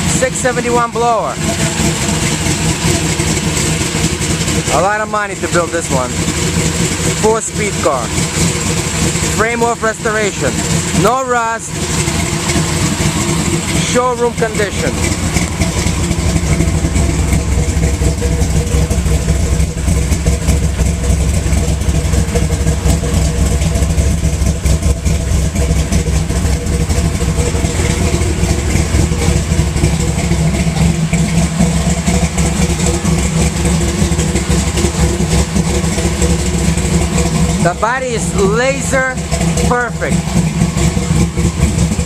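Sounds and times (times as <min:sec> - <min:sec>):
supercharged car engine idling: 0:00.0 - 0:42.0.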